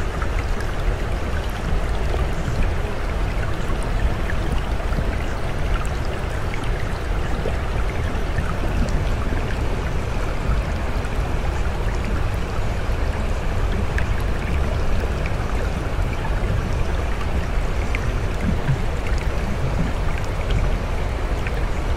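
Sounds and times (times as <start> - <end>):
rushing water: 0.0 - 21.9.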